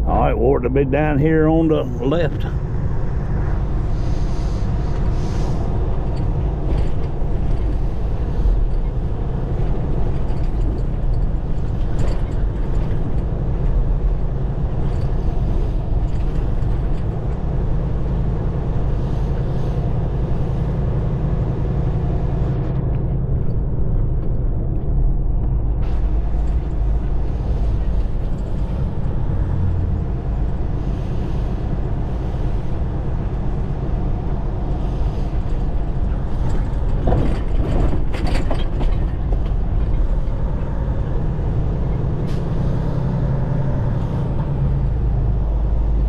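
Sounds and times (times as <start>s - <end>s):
truck diesel engine running: 0.0s - 46.0s.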